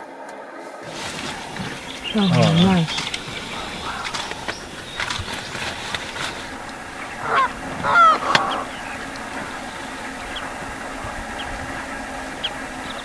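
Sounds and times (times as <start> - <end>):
bird honking: 0.9 - 13.0
faint low hum: 0.9 - 13.0.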